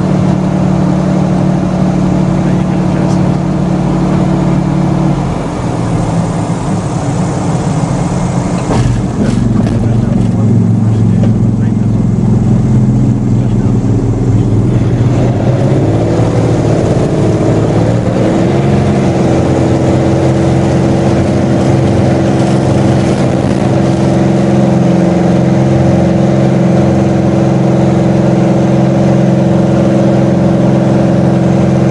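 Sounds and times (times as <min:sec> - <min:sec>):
aircraft engine droning: 0:00.0 - 0:31.9.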